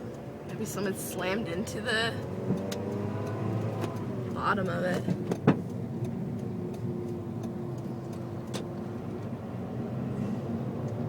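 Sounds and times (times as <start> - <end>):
car cabin road and engine drone: 0.0 - 11.0.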